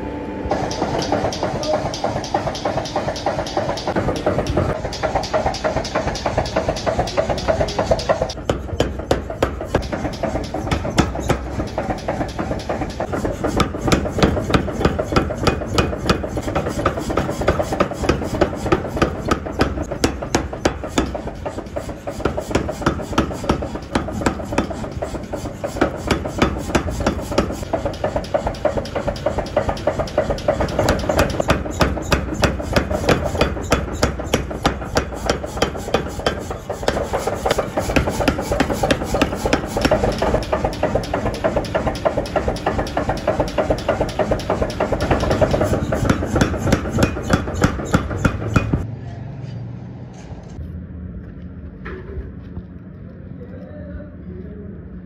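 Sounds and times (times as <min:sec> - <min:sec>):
low machine rumble: 0:00.0 - 0:55.0
power hammer pounding steel: 0:00.5 - 0:48.9.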